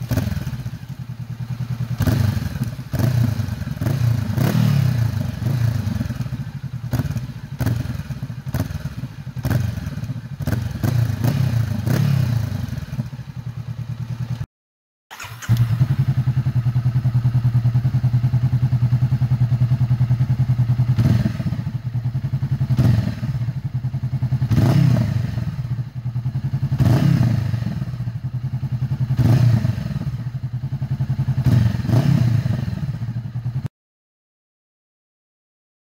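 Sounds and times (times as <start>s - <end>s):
motorcycle engine idling: 0.0s - 14.5s, 15.1s - 33.7s.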